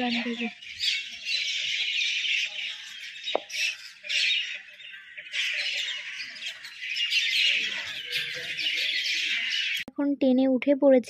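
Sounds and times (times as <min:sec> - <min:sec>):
birds chirping and squawking: 0:00.0 - 0:09.9.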